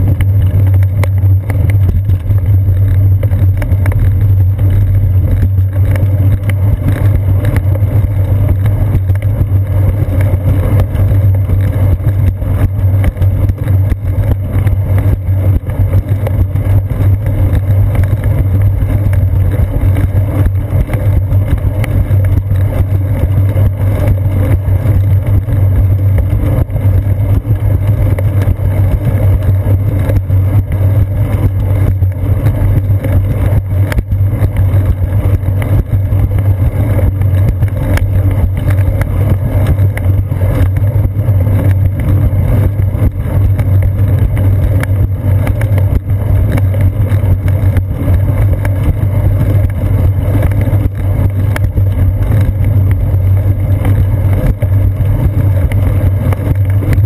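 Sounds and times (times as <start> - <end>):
bicycle riding vibration: 0.0 - 57.0.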